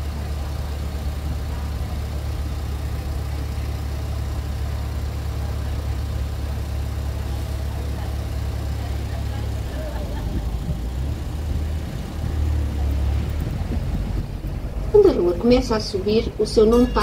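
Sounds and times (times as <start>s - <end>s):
road train engine drone: 0.0s - 17.0s.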